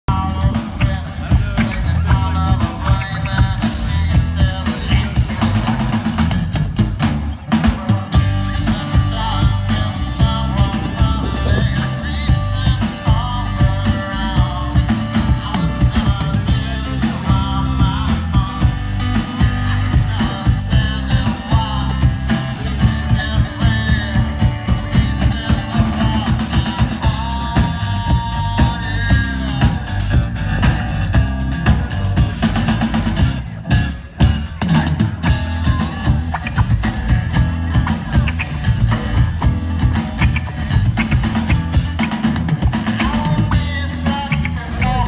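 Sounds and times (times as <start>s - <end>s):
drum kit: 0.0s - 45.0s
acoustic guitar: 0.1s - 45.0s
electric guitars: 0.1s - 45.0s.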